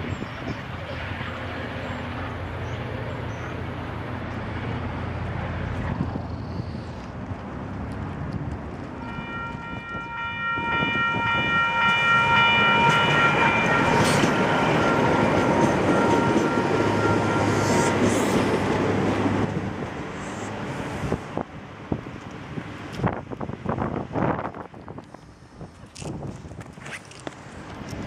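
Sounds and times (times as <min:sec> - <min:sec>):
electric train passing: 0:00.0 - 0:06.4, 0:07.0 - 0:24.8.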